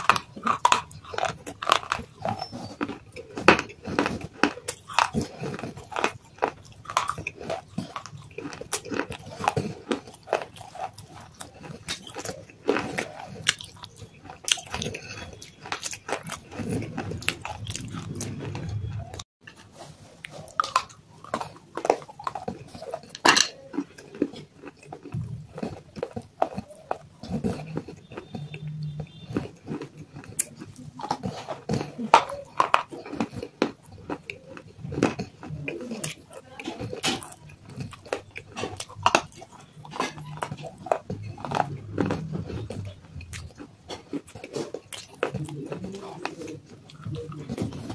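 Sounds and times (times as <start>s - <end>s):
crunching hard clay pieces: 0.0s - 18.1s, 20.4s - 47.9s.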